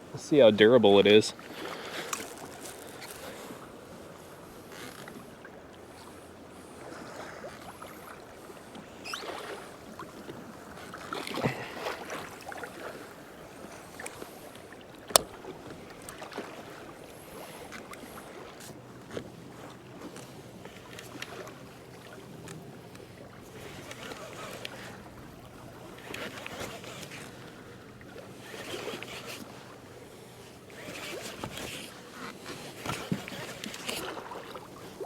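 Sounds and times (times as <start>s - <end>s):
water lapping against hull: 0.0s - 35.0s.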